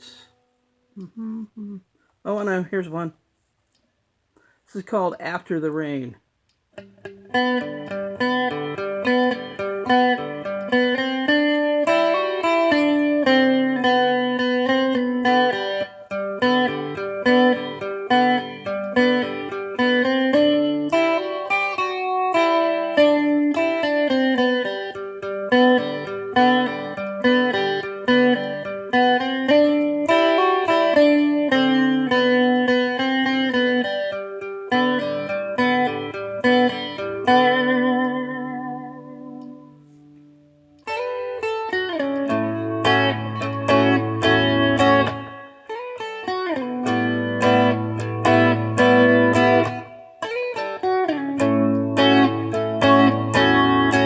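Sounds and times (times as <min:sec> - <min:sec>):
solo guitar melody: 0:06.7 - 0:54.0.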